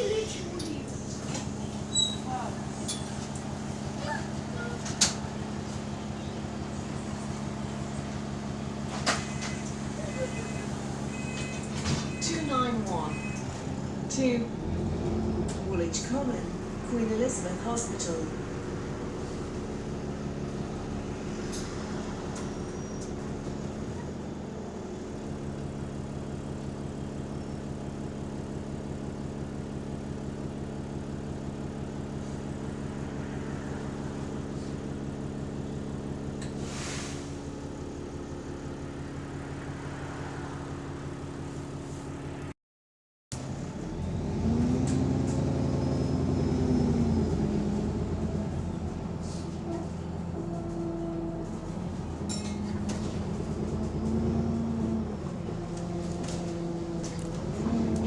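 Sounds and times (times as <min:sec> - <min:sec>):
bus diesel engine idling and revving: 0:00.0 - 0:42.6, 0:43.3 - 0:58.0.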